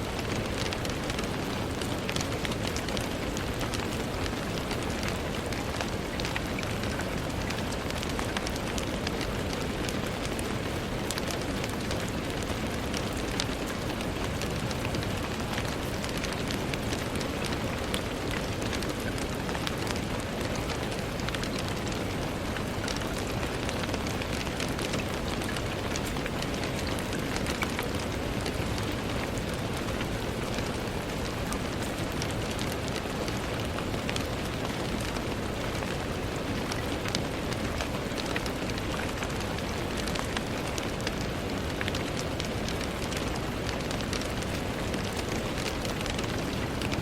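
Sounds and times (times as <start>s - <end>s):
rain pattering on a window: 0.0s - 47.0s.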